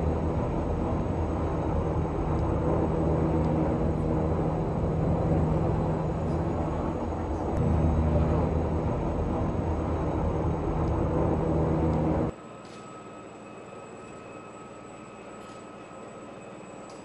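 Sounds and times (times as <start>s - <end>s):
helicopter rotor drone: 0.0s - 17.0s.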